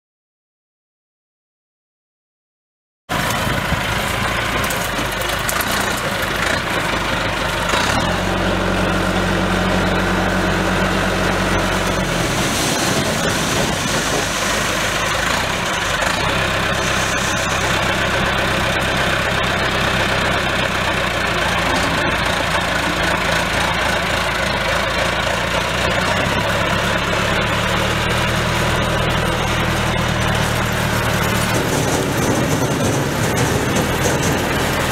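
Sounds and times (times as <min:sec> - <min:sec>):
corn picker mechanical din: 0:03.1 - 0:34.9
tractor engines running: 0:03.1 - 0:34.9.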